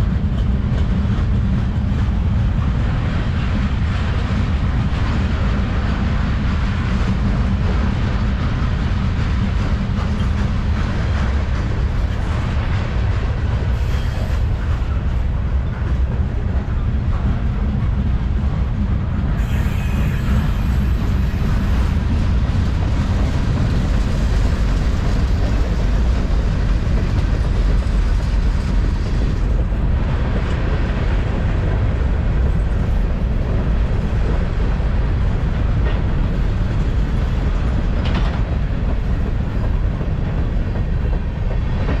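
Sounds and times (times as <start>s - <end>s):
freight train wheels rumbling: 0.0s - 42.0s.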